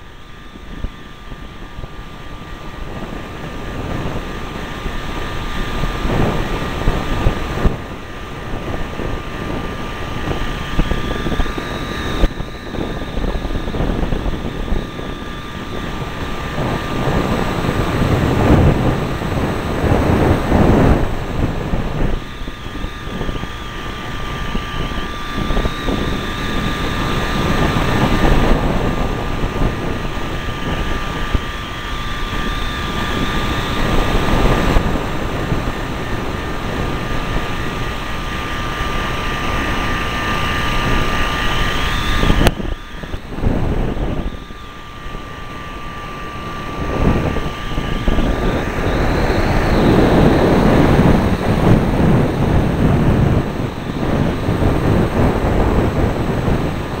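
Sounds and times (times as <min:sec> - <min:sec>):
engine and propeller whine: 0:00.0 - 0:57.0
wind rushing across camera: 0:00.0 - 0:57.0.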